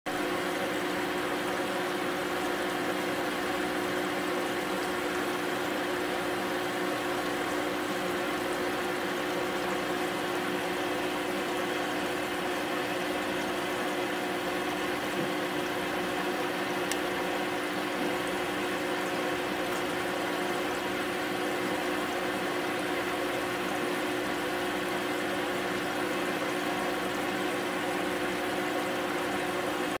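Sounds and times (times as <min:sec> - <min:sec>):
aquarium equipment humming: 0:00.1 - 0:30.0.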